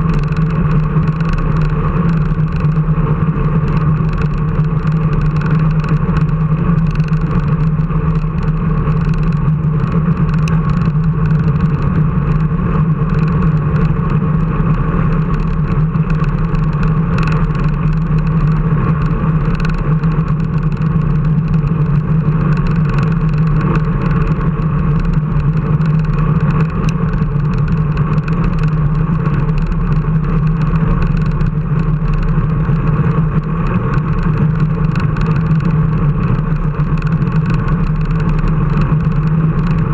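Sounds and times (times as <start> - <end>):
engine drone: 0.0 - 39.9
low rumble: 0.0 - 39.9.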